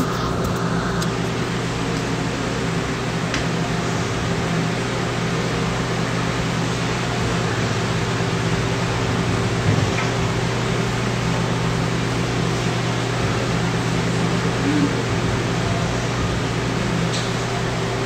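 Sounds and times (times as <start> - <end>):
low motor hum: 0.0 - 18.0
ventilation air rushing: 0.0 - 18.0.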